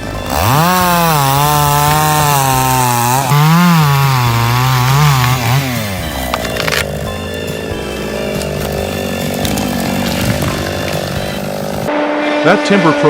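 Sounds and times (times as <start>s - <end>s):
chainsaw cutting wood: 0.0s - 11.9s.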